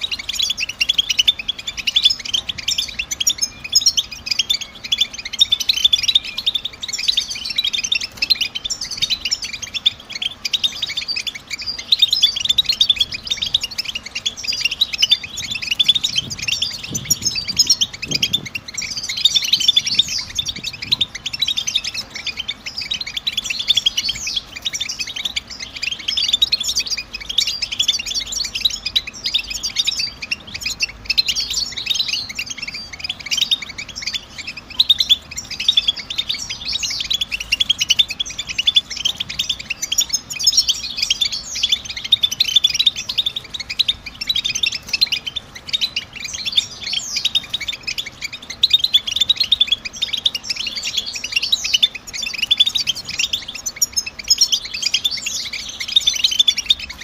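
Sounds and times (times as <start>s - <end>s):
goldfinch twittering: 0.0s - 57.0s.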